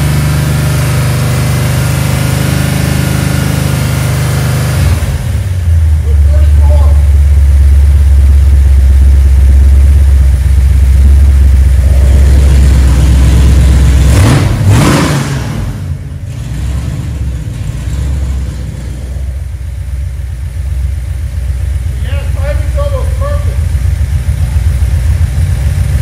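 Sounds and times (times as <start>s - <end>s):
loud car engine idling and revving: 0.0s - 26.0s.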